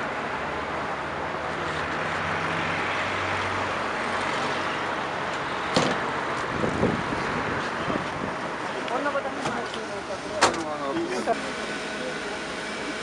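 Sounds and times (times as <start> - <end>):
street and vehicle noise: 0.0 - 13.0.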